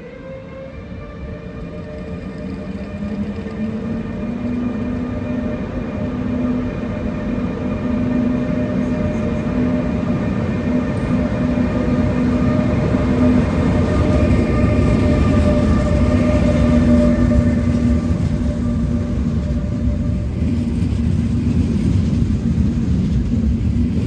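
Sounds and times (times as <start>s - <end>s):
electric train whine: 0.0s - 24.0s
low train rumble: 0.0s - 24.0s.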